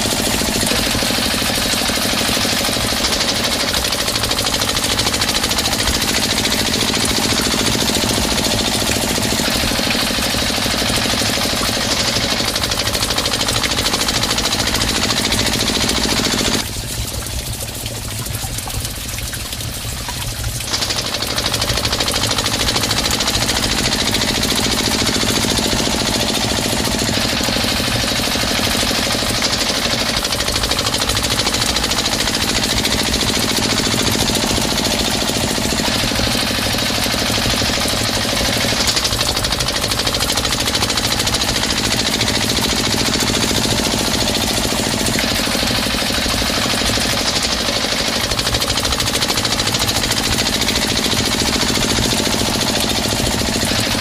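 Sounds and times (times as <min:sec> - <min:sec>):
small motor rattling: 0:00.0 - 0:54.0.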